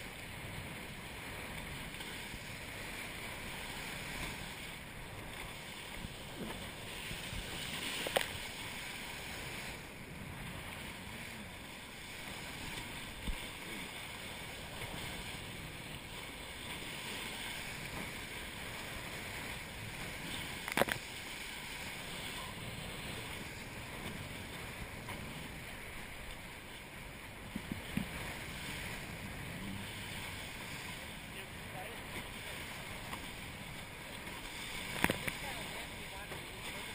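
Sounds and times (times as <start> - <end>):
water and wind rushing past hulls: 0.0 - 36.9.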